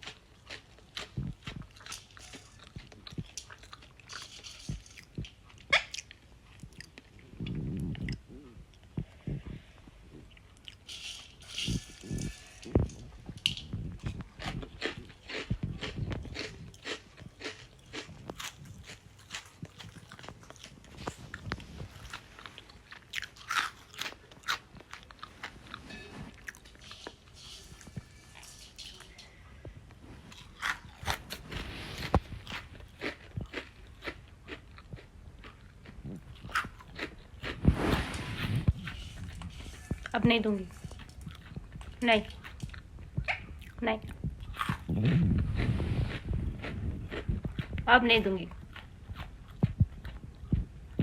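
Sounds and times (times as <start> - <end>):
parrot crunching food: 0.0 - 9.0, 10.2 - 51.0.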